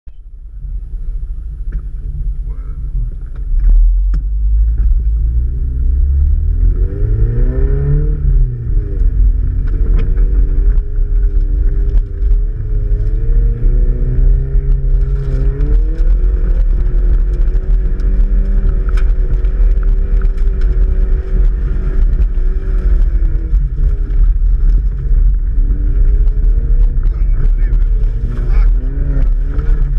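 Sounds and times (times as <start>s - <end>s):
heavy low rumble: 0.1s - 29.9s
car engine revving: 0.6s - 29.9s.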